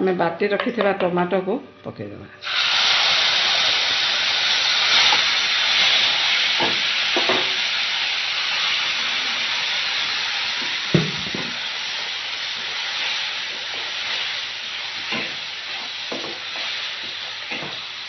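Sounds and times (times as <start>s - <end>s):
tomato sizzling in hot oil: 2.4s - 18.0s.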